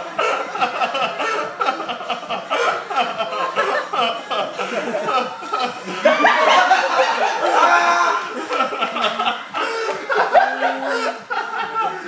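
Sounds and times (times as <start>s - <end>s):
group of people laughing: 0.0s - 12.0s.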